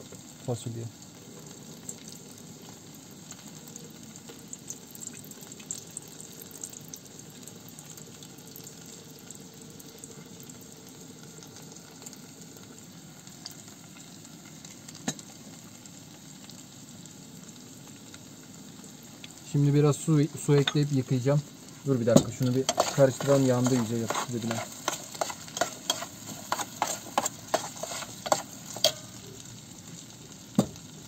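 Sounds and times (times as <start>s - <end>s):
onions and potatoes sizzling in oil: 0.0s - 31.0s.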